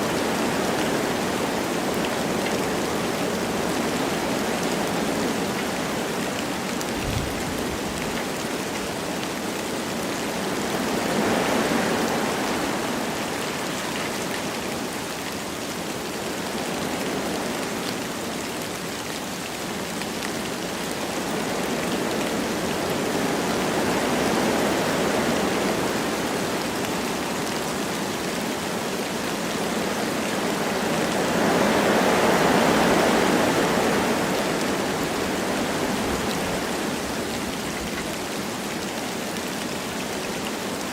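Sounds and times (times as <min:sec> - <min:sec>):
light rain falling: 0:00.0 - 0:40.9
wind through trees: 0:00.0 - 0:40.9.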